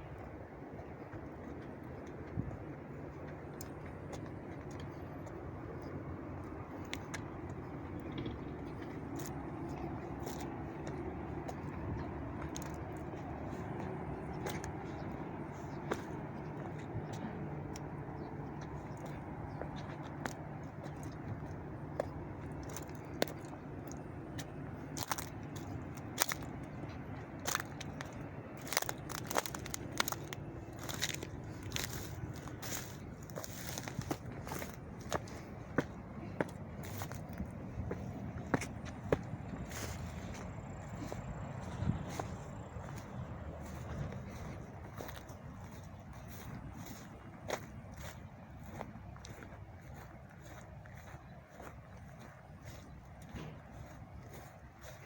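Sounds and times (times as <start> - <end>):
road traffic rumble: 0.0 - 55.0
footsteps crunching on gravel: 1.0 - 55.0.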